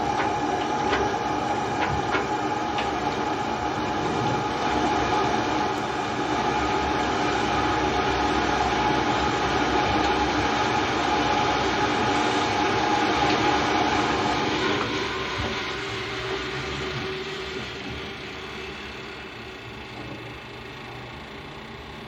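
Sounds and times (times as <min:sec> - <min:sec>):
gas burner roaring: 0:00.0 - 0:22.0.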